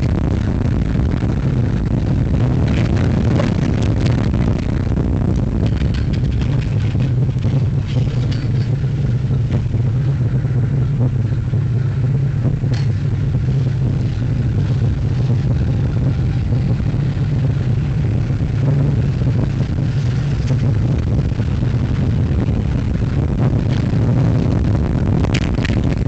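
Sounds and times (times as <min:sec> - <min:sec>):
roller coaster wheels rumbling: 0:00.0 - 0:26.0.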